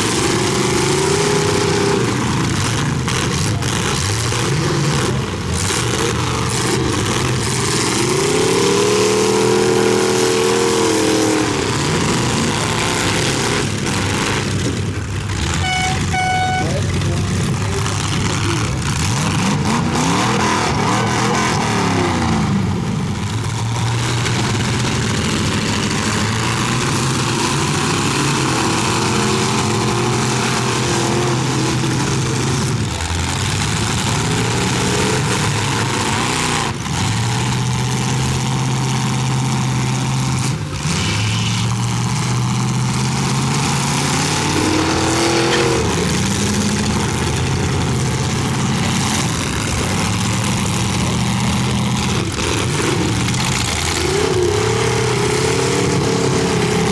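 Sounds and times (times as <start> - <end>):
car engines revving hard: 0.0 - 56.9
cars crashing: 0.0 - 56.9.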